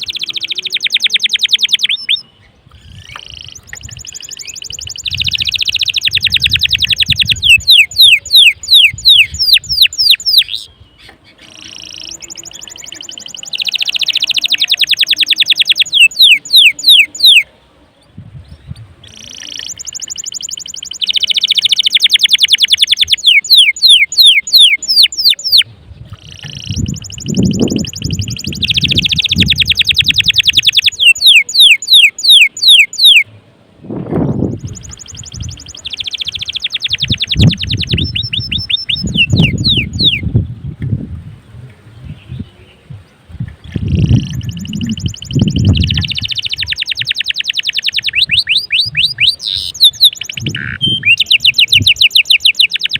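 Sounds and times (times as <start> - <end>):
canary singing trills: 0.0 - 33.4, 34.3 - 40.6, 41.4 - 52.9.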